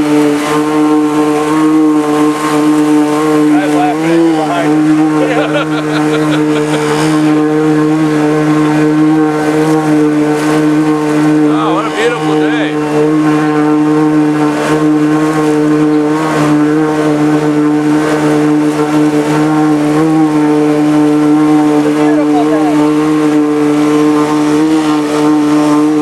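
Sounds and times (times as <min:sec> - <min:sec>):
boat engine running steadily: 0:00.0 - 0:26.0.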